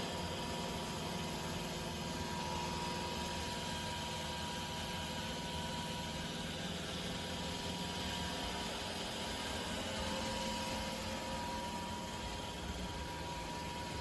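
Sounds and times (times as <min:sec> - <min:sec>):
robot vacuum motor hum: 0:00.0 - 0:14.0.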